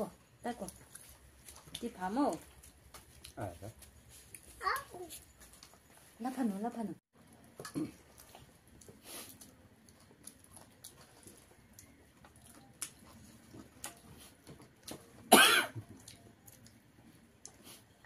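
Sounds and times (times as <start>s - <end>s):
chewing: 0.5s - 6.2s, 7.3s - 18.0s.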